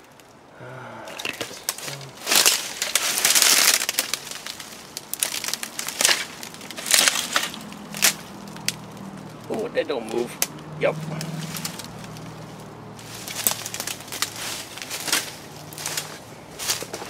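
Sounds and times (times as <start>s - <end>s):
dry plant stalks rustling and snapping: 1.1s - 17.0s.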